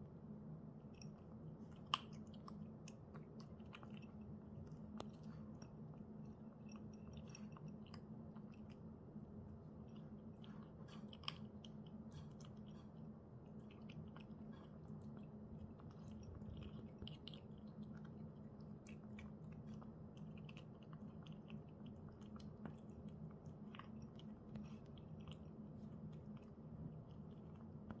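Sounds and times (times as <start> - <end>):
faint low hum: 0.0 - 28.0
cat chewing dry kibble: 0.8 - 28.0.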